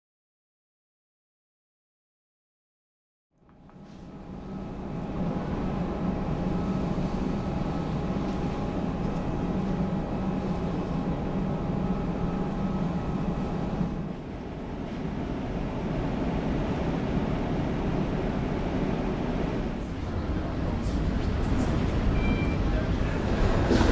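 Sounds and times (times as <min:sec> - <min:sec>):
jet airliner humming and whining: 0:03.4 - 0:23.9.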